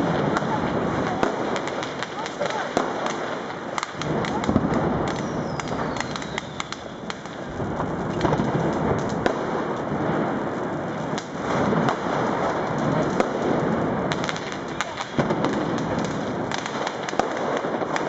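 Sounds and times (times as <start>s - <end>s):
crackles and firecracker bangs: 0.0s - 18.0s
firework fountain hissing: 0.0s - 18.0s.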